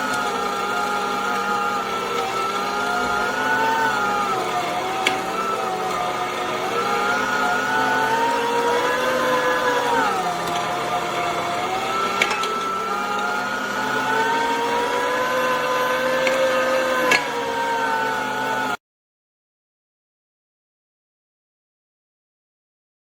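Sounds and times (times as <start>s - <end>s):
meat grinder motor whining: 0.0s - 18.8s.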